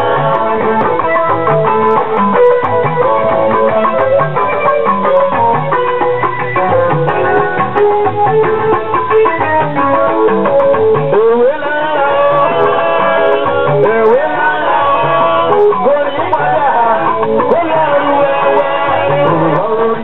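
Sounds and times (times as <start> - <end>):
guitar lines: 0.0 - 20.0
live band music: 0.0 - 20.0.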